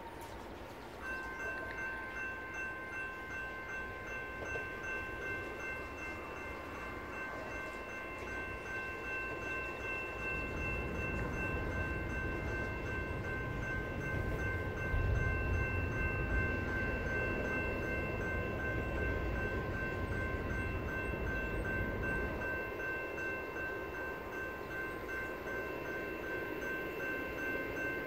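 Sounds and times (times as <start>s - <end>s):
crossing warning bell ringing: 0.0s - 28.0s.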